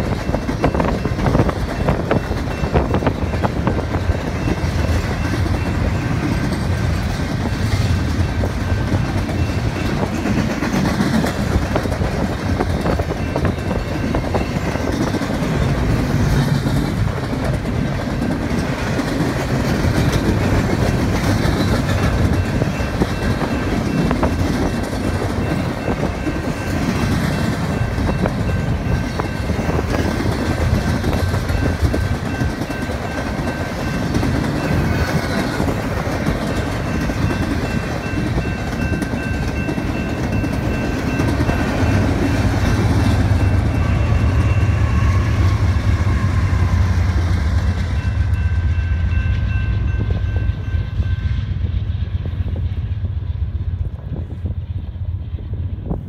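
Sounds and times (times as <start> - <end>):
wheels clattering on rails: 0.0 - 51.2
freight train rumbling past: 0.0 - 56.0.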